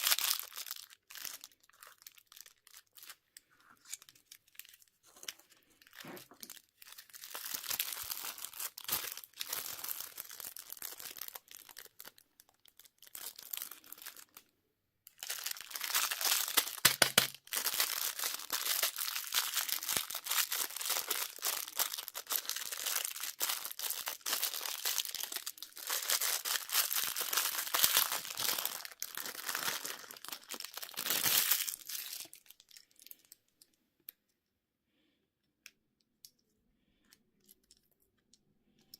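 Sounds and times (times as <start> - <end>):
plastic wrappers crinkling and tearing: 0.0 - 14.4, 15.1 - 33.6.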